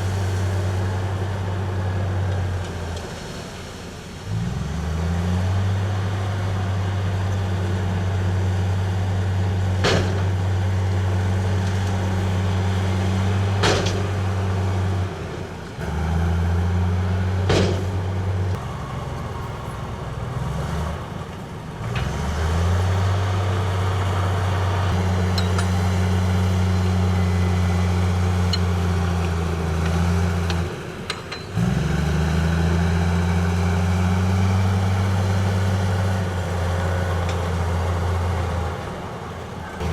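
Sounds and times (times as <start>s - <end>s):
heavy diesel engine running hard: 0.0s - 39.9s.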